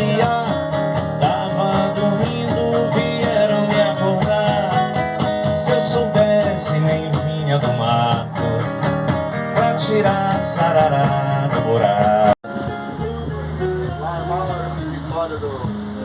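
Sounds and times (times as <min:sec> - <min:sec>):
steady percussion beat: 0:00.0 - 0:15.0
strummed and plucked guitar: 0:00.0 - 0:16.0.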